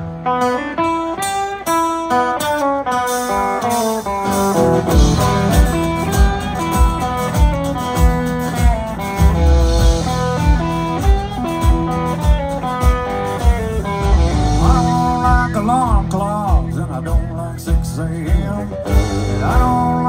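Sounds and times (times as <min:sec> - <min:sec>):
country band playing: 0:00.0 - 0:20.0
guitars: 0:00.0 - 0:20.0.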